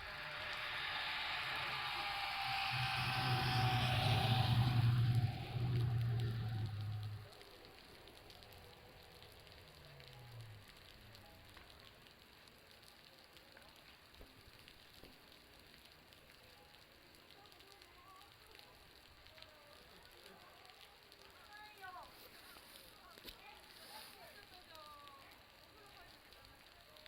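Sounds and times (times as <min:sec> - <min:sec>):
water dripping from roof: 0:00.0 - 0:27.0.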